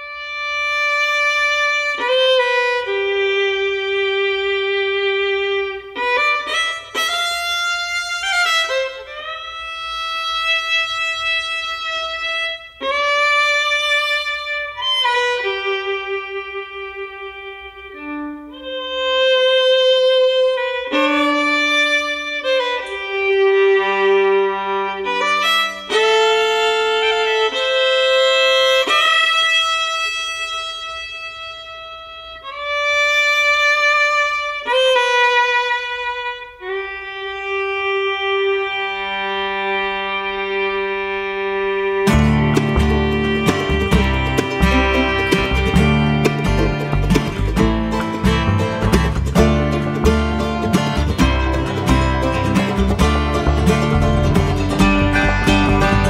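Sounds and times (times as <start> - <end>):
bluegrass fiddle melody: 0.0 - 56.0.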